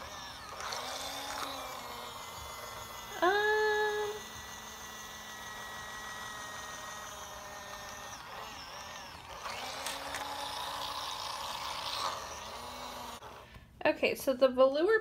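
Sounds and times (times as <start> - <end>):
small motor whirring: 0.0 - 13.6.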